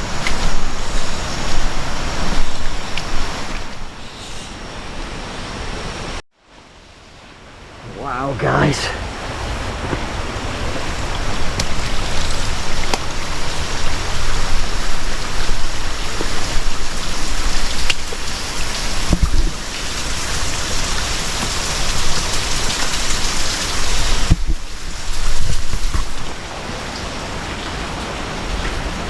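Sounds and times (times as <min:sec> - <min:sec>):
falling water rushing: 0:00.0 - 0:06.2, 0:07.7 - 0:29.0.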